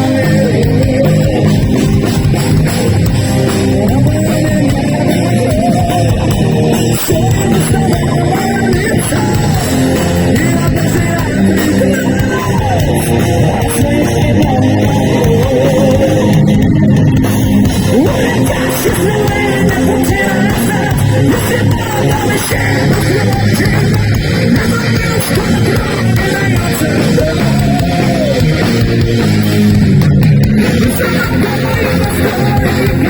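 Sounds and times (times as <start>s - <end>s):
electric guitar: 0.0s - 33.0s
heavy metal band playing: 0.0s - 33.0s.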